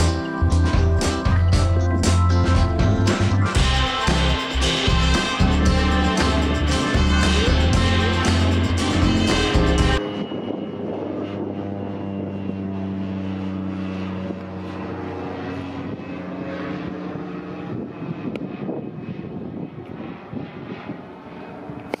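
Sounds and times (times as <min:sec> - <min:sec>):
propeller airplane droning overhead: 0:00.0 - 0:22.0.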